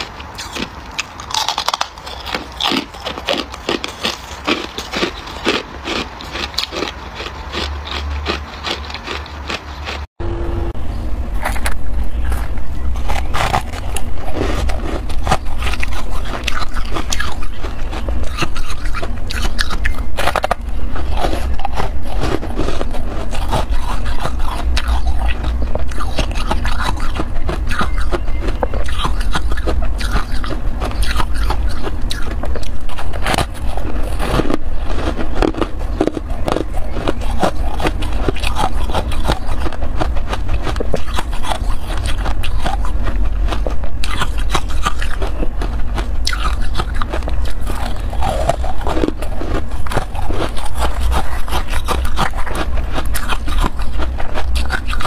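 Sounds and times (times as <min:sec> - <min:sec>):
frost being chewed crunching: 0:00.0 - 0:10.1, 0:11.4 - 0:55.0
low rumble: 0:04.3 - 0:55.0.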